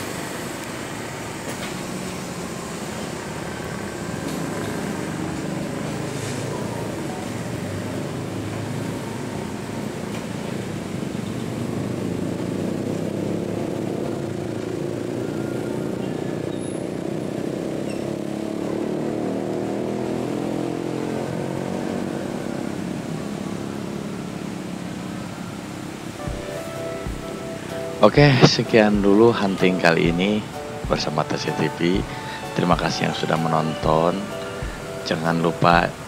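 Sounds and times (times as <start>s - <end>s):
diesel engines running: 0.0s - 36.0s.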